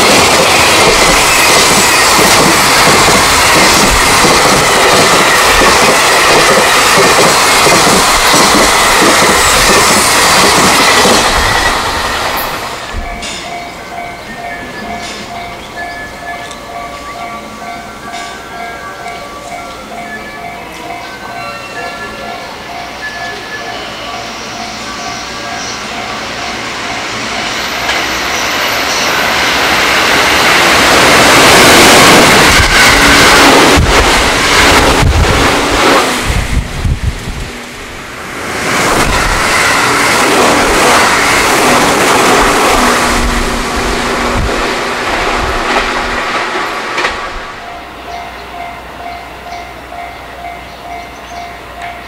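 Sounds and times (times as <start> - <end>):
train wheels rumbling on rails: 0.0 - 21.4, 22.1 - 52.0.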